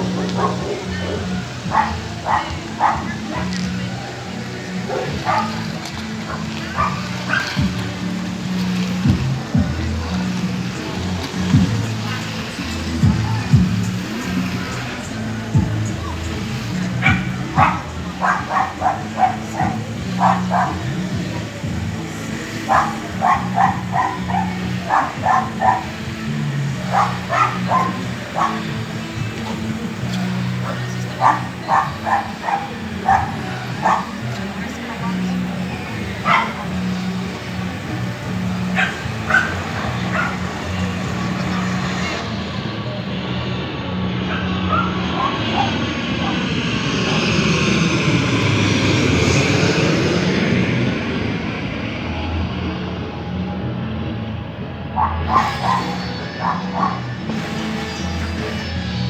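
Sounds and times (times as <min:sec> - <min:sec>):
dog barking: 0:00.0 - 0:14.8, 0:15.5 - 0:42.2, 0:44.2 - 0:47.4, 0:54.9 - 0:58.8
low propeller drone: 0:00.0 - 0:59.0
steady low hum: 0:00.0 - 0:59.0
turboprop engines running: 0:00.0 - 0:59.0.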